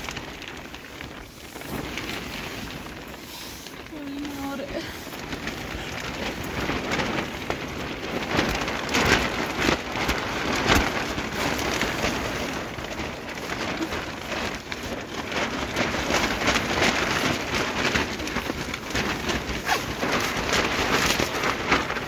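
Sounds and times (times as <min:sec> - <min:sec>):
rain falling on a tent: 0:00.0 - 0:22.0.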